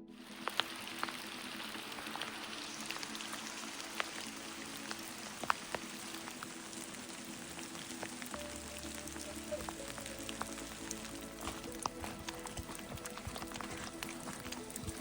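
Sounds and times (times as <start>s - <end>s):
heavy rain falling: 0.0s - 15.0s
raindrops ticking: 0.0s - 15.0s
soft background music: 0.0s - 15.0s.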